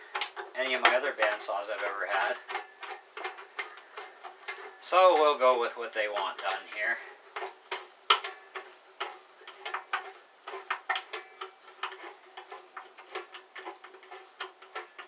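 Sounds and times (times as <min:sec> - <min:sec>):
allen key turning a screw: 0:00.0 - 0:15.0.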